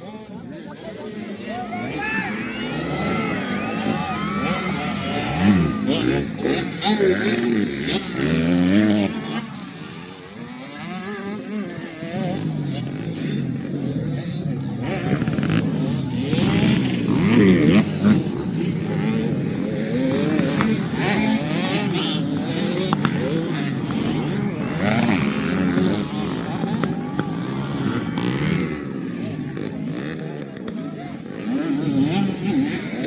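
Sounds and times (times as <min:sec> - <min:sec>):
motocross bikes revving: 0:00.0 - 0:33.0.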